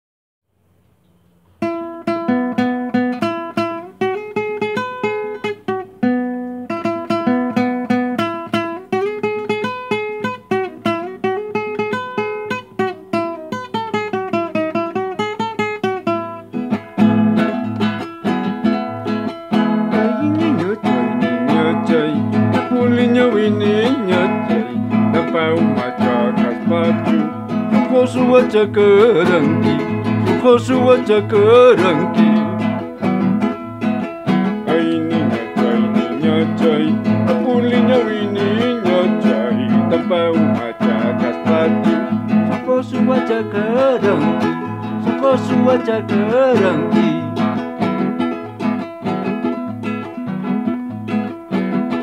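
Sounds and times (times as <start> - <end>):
acoustic guitar playing: 0.6 - 52.0.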